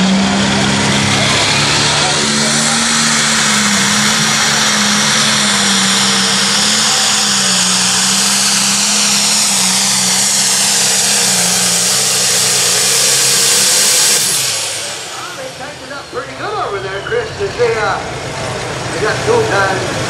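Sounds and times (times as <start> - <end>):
high turbo whistle: 0.0 - 17.6
diesel engine under load: 0.0 - 20.0.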